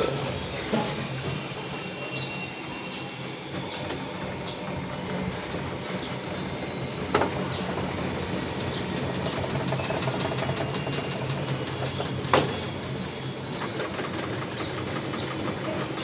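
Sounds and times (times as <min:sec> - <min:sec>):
high whine falling in pitch: 0:00.0 - 0:12.9
washing machine motor hum: 0:00.0 - 0:16.0.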